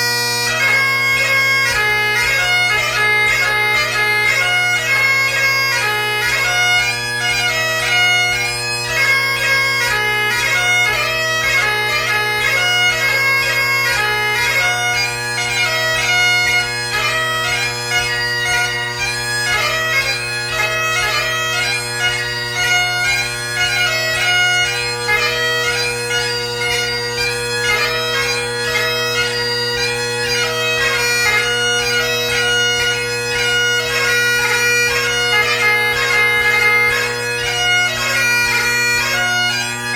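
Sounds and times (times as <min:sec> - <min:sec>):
solo bagpipe melody: 0:00.0 - 0:39.9.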